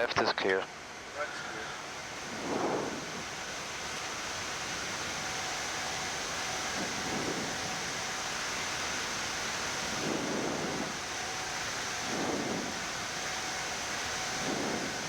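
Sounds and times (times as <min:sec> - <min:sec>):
faint steady hums: 0:00.0 - 0:15.0
ventilation fans hissing: 0:00.0 - 0:15.0
low rush: 0:01.1 - 0:15.0.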